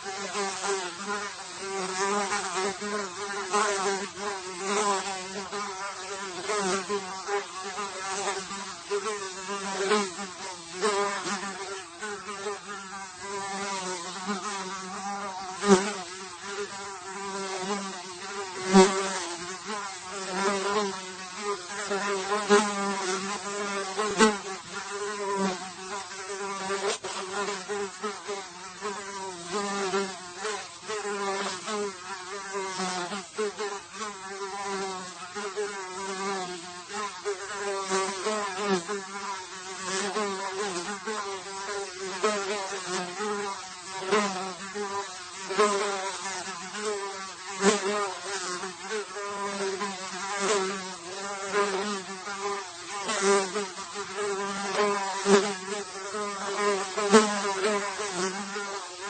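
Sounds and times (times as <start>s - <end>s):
fly buzzing: 0.0s - 59.0s.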